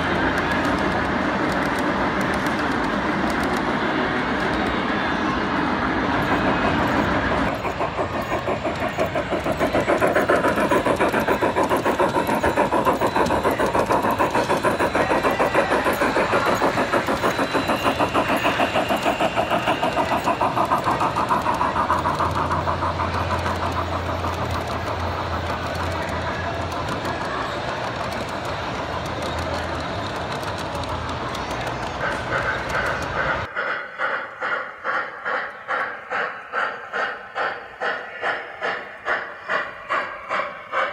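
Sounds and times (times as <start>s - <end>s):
model steam locomotive chuffing: 0.0s - 40.9s.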